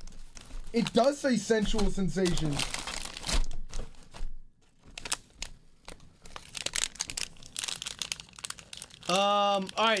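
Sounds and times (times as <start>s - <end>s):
plastic snack packet crinkling: 0.0s - 3.6s, 4.8s - 10.0s.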